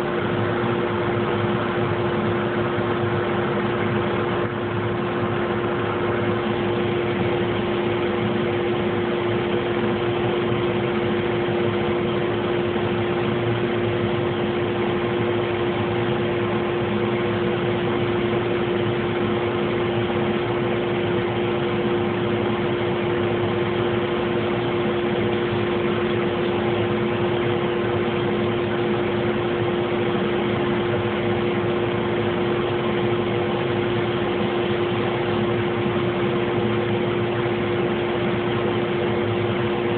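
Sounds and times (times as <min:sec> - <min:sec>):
laser engraver humming: 0:00.0 - 0:39.9.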